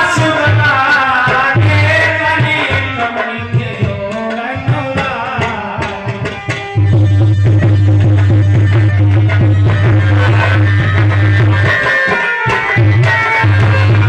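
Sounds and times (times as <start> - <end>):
tabla drumming: 0.0 - 14.0.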